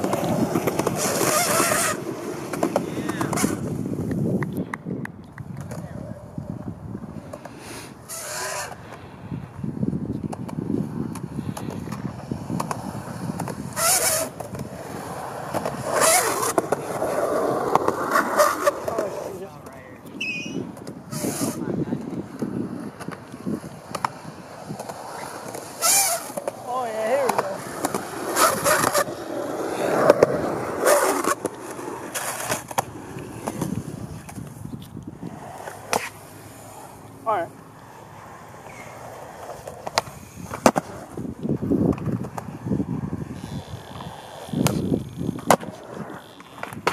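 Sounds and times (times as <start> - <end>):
skateboard clacking on ground: 0.0 - 9.0, 10.1 - 46.9
skateboard wheels rolling on concrete: 0.0 - 46.9.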